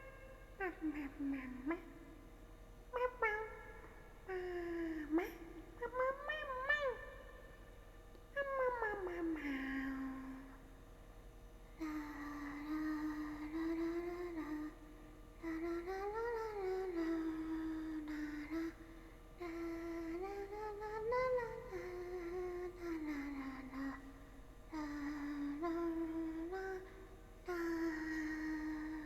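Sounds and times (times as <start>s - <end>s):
woman humming a tune: 0.0s - 2.3s, 2.9s - 7.6s, 8.3s - 10.8s, 11.8s - 29.0s.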